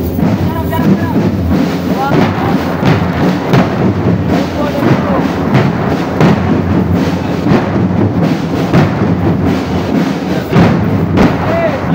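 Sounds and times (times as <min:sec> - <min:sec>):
bass drum strikes: 0:00.0 - 0:11.9
marching drum band: 0:00.0 - 0:11.9.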